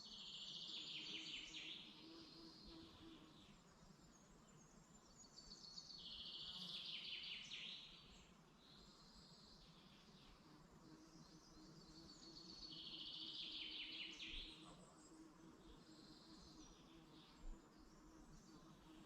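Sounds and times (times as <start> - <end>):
faint songbirds singing: 0.0 - 19.0.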